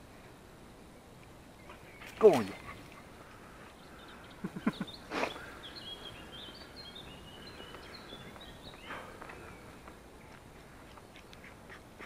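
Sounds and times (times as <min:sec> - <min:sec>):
outdoor noise: 0:00.0 - 0:12.0
songbird chirping: 0:00.0 - 0:12.0.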